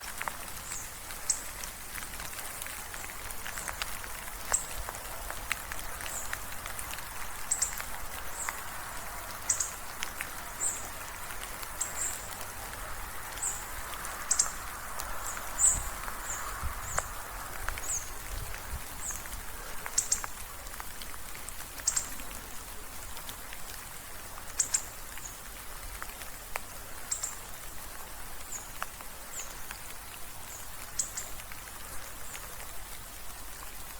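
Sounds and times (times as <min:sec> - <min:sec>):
gentle rain patter: 0:00.0 - 0:33.9.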